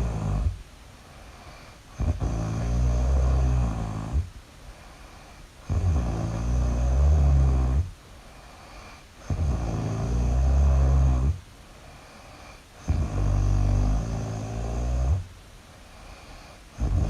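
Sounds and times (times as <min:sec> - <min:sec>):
deep snoring: 0:00.0 - 0:00.6, 0:01.3 - 0:04.3, 0:05.0 - 0:11.4, 0:12.0 - 0:15.3, 0:15.9 - 0:17.0.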